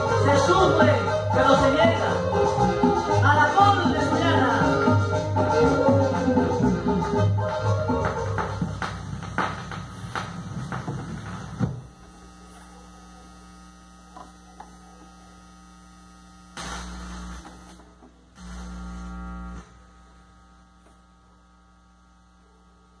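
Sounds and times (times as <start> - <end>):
song on a record: 0.0 - 19.8
tonearm low hums: 0.0 - 23.0
turntable electrical hum: 0.0 - 23.0.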